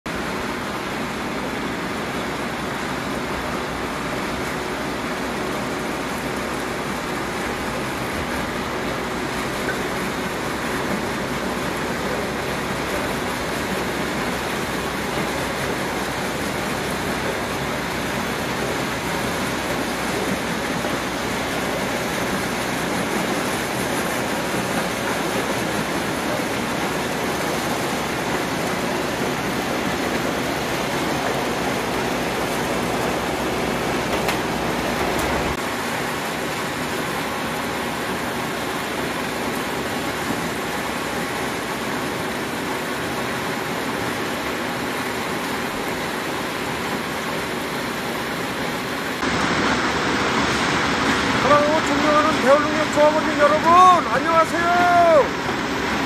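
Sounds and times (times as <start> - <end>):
combine harvester running: 0.1 - 56.0
low engine hum: 0.1 - 56.0.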